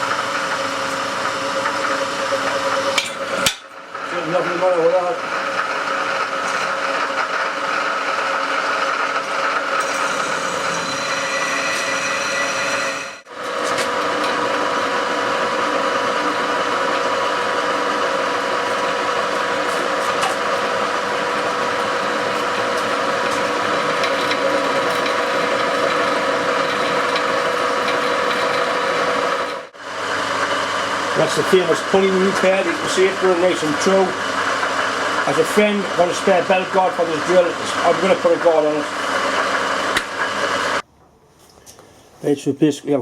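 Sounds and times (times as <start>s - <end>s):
drill press drilling steel: 0.0s - 40.8s.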